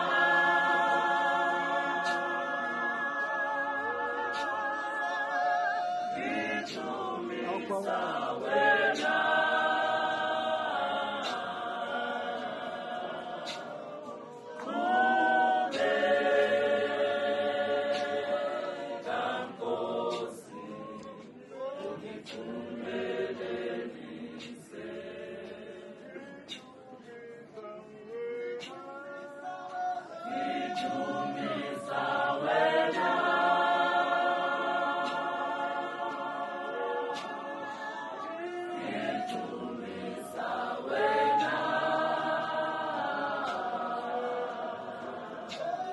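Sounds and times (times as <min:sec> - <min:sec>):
choir singing: 0:00.0 - 0:45.9.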